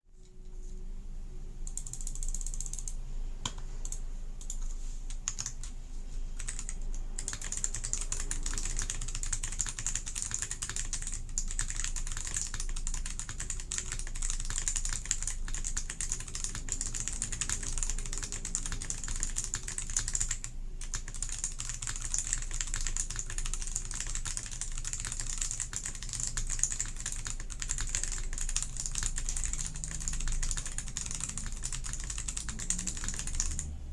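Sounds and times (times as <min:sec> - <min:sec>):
mechanical keyboard keystroke clacks: 0:06.4 - 0:33.7.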